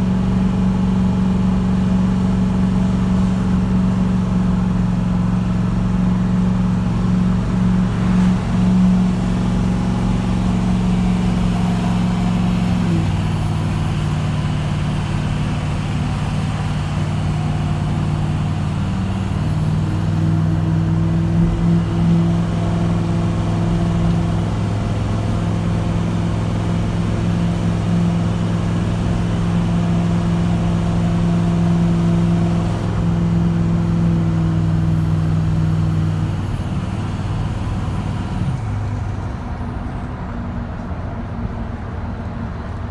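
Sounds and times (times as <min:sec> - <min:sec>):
vehicle engine running: 0:00.0 - 0:42.9.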